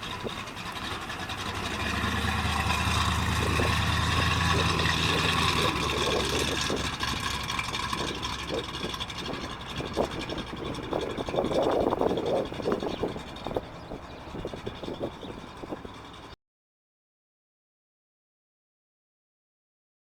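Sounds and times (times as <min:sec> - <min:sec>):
car engine running: 0:00.0 - 0:16.4.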